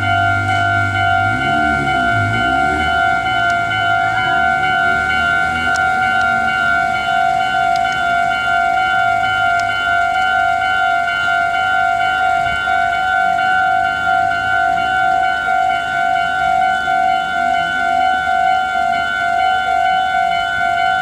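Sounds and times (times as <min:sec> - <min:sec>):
level crossing electronic bell: 0:00.0 - 0:21.0.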